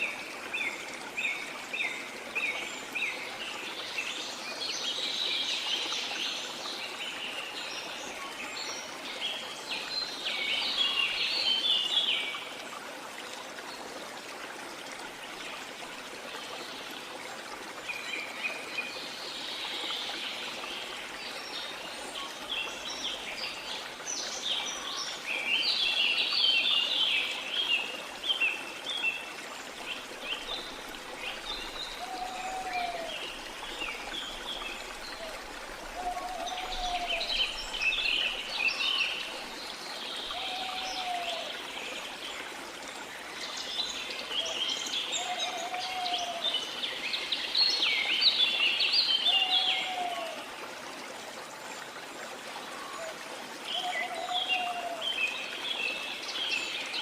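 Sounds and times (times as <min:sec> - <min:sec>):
river flowing: 0:00.0 - 0:57.0.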